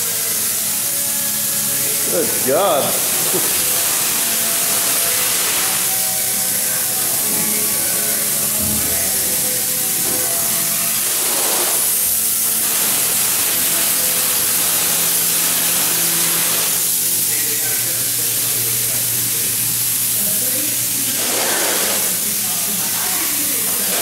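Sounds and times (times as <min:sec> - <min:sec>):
spray-foam gun hissing: 0:00.0 - 0:24.0.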